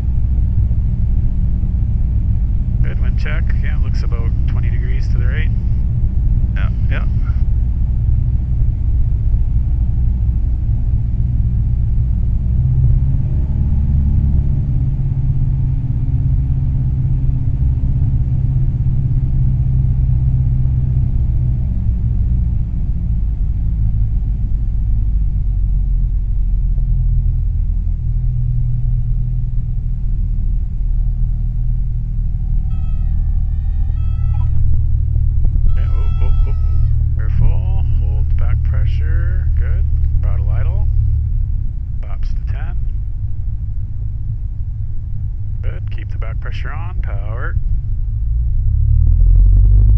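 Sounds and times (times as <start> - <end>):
small plane engine and propeller droning: 0.0 - 49.9.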